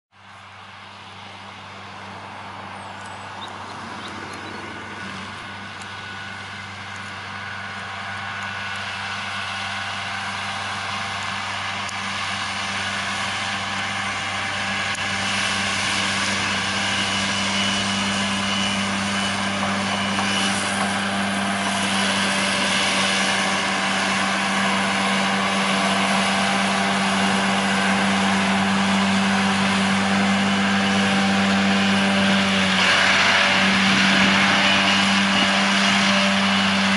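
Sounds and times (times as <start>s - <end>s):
tractor diesel engine running: 0.1s - 36.9s
mower hissing whir: 0.3s - 36.9s.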